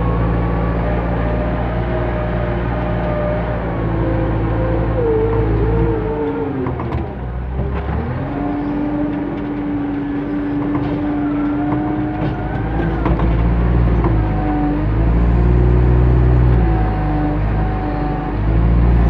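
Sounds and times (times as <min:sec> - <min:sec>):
diesel engine running: 0:00.0 - 0:19.0
hydraulic whine: 0:00.0 - 0:19.0.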